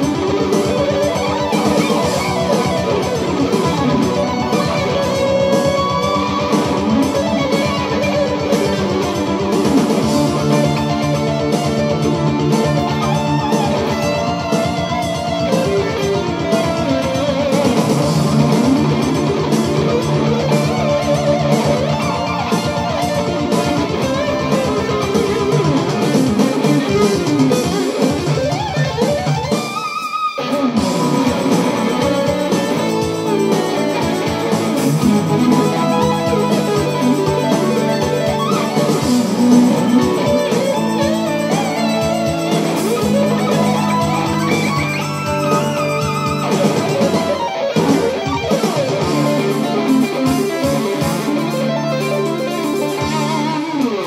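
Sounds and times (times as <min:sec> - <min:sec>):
electric guitar lead lines: 0:00.0 - 0:54.0.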